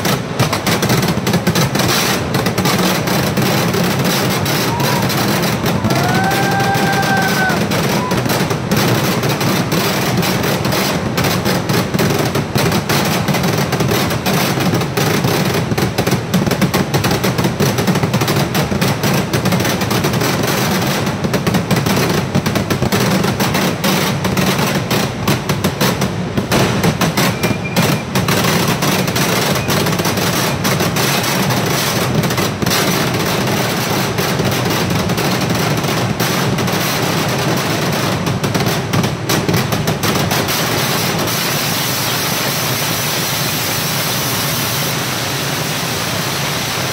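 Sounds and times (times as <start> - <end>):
firecrackers going off: 0.0 - 46.9.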